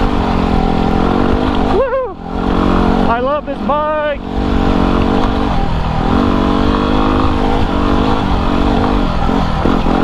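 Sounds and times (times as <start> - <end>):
motorcycle engine under load: 0.0 - 10.0.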